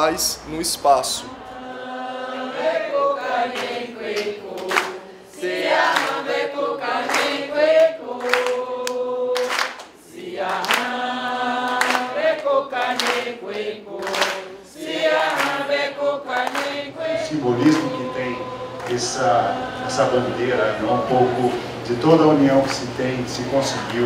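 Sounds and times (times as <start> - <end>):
group of voices singing: 1.1 - 24.0.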